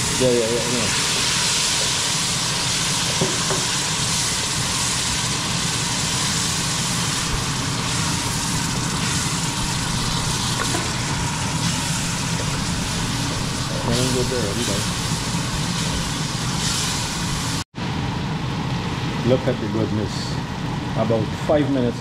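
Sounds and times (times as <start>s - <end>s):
paste sizzling in hot oil: 0.0s - 17.6s.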